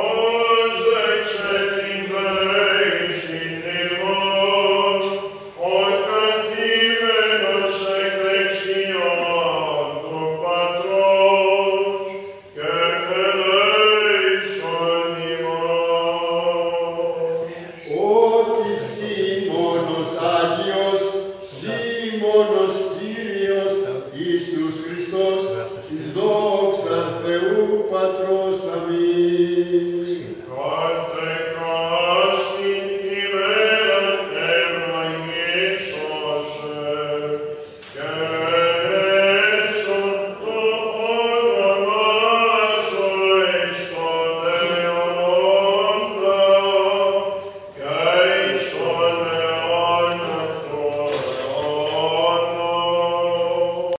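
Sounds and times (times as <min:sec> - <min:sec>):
held vocal drone: 0:00.0 - 0:53.9
ornamented chant melody: 0:00.0 - 0:53.9.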